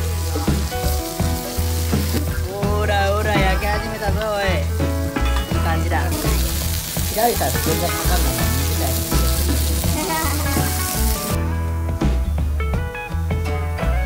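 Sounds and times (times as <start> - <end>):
vegetables sizzling in oil: 0.0 - 11.5
background music with throbbing bass: 0.0 - 14.0.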